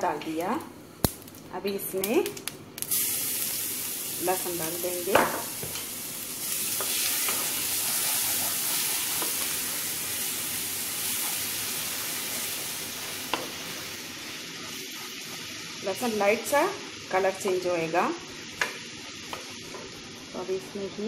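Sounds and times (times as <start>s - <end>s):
spices sizzling in hot oil: 0.2s - 21.0s.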